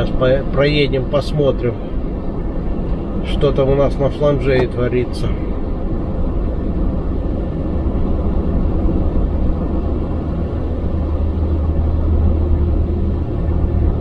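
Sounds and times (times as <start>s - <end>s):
road noise: 0.0s - 14.0s
truck diesel engine drone: 0.0s - 14.0s.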